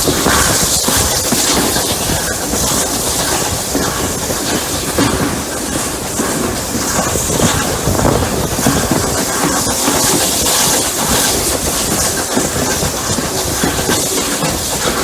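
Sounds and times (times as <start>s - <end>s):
steam hissing: 0.0s - 15.0s
wheels rumbling on rail: 0.0s - 15.0s.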